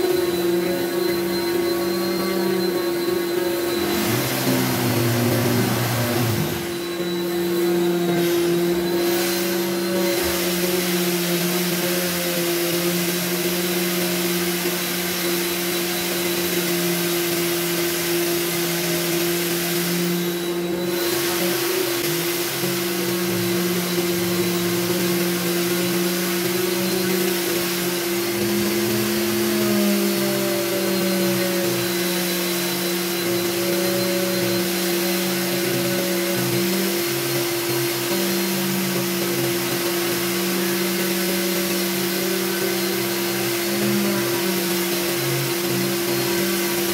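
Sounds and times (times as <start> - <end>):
electric sander running: 0.0 - 46.9.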